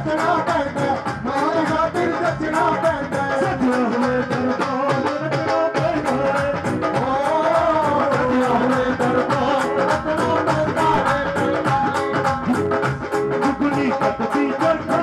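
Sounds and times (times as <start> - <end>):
devotional music with fast drums: 0.0 - 15.0.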